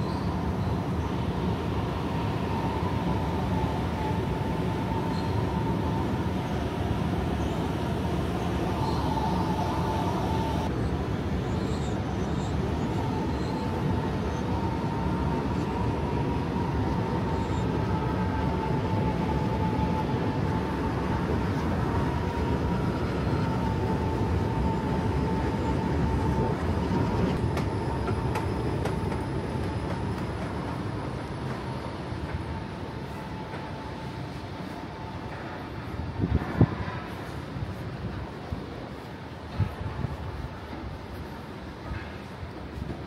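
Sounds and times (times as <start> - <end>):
faint high whine: 0.0 - 43.0
train rumbling past: 0.0 - 43.0.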